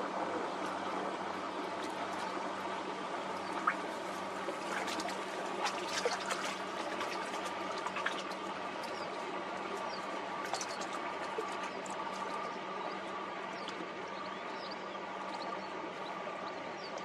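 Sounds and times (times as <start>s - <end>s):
boat engine humming: 0.0s - 17.0s
river water lapping: 0.0s - 17.0s
small clicks and splashes: 1.8s - 2.5s, 3.3s - 17.0s.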